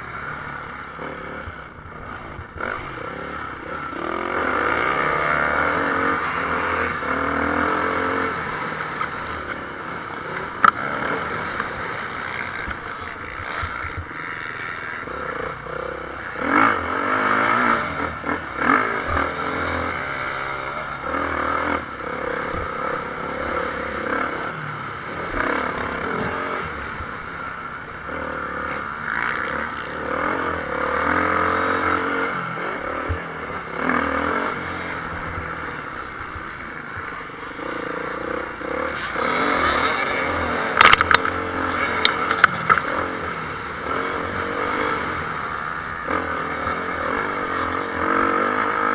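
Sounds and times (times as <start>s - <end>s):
motorcycle engines revving: 0.0s - 48.9s.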